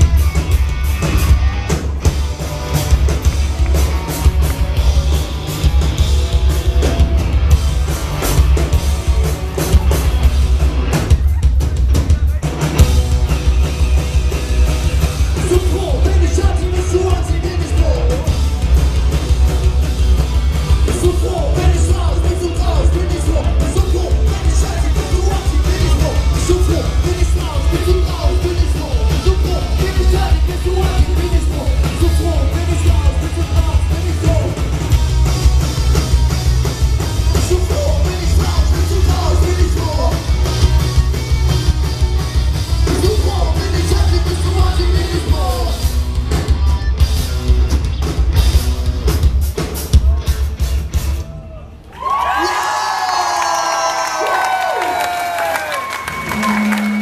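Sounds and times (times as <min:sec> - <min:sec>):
electric guitars: 0:00.0 - 0:51.2
bass guitar: 0:00.0 - 0:52.4, 0:53.0 - 0:57.0
drum kit: 0:00.0 - 0:57.0.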